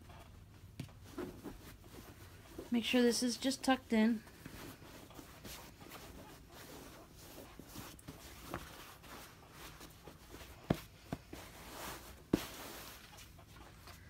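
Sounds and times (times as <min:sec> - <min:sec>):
cloth rustling: 0:00.0 - 0:14.0
soft pats on pillow: 0:00.6 - 0:03.6, 0:04.2 - 0:14.0.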